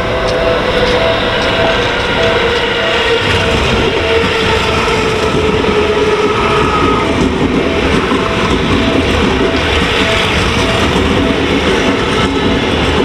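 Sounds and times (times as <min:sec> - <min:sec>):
electric train passing: 0:00.0 - 0:13.0
level crossing bell ringing: 0:00.0 - 0:13.0.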